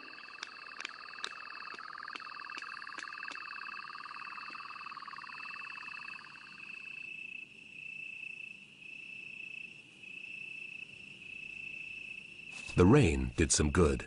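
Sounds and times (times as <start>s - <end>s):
crickets trilling: 0.0s - 13.2s.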